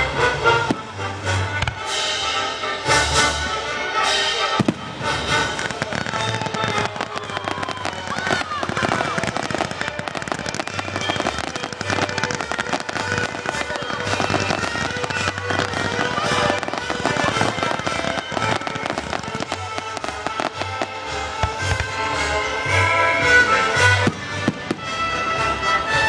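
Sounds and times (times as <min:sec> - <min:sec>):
fireworks crackling: 0:00.0 - 0:26.0
music playing: 0:00.0 - 0:26.0
fireworks low booms: 0:00.1 - 0:25.9.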